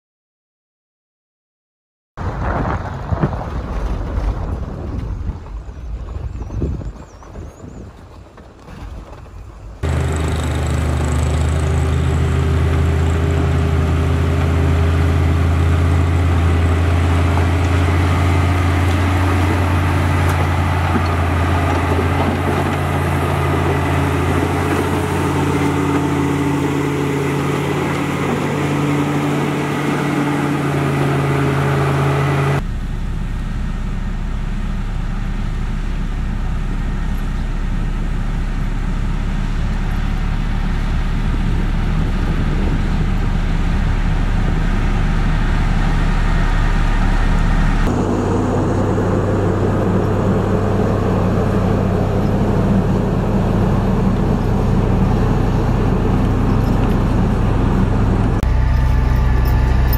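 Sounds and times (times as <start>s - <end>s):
road roller engine deep hum: 3.6s - 59.9s
grader diesel engine running: 8.9s - 59.9s.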